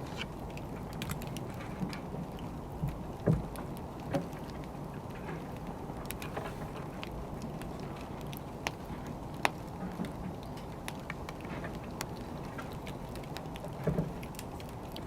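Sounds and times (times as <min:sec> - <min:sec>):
firewood crackling and popping: 0:00.0 - 0:15.0
low rumble of fire: 0:00.0 - 0:15.0.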